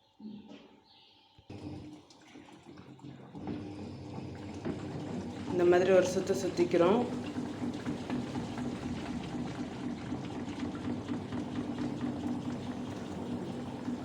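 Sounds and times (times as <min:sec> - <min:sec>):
washing machine motor hum: 0:01.5 - 0:14.0.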